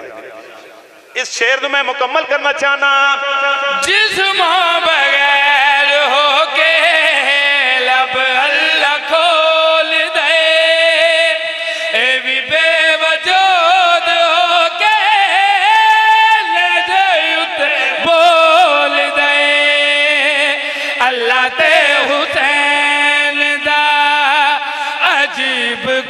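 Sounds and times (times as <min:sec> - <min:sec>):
man singing slow chant: 0:01.5 - 0:26.0.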